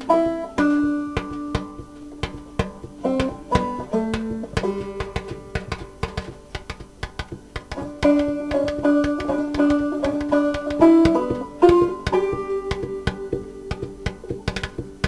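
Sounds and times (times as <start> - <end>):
percussive taps beat: 0.0 - 15.0
plucked string notes: 0.0 - 15.0.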